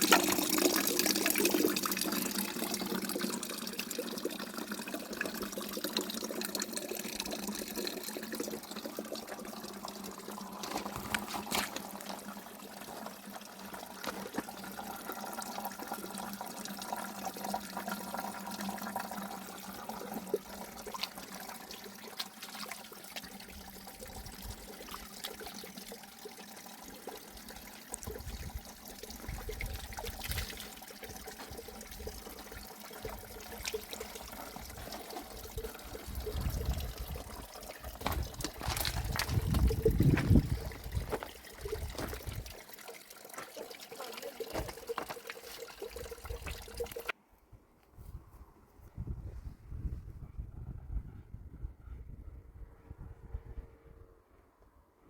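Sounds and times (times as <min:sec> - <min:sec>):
water trickling and splashing: 0:00.0 - 0:47.2.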